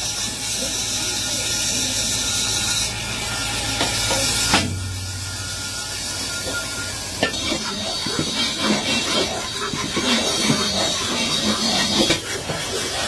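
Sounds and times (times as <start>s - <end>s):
workshop hiss with low hum: 0.0s - 13.0s.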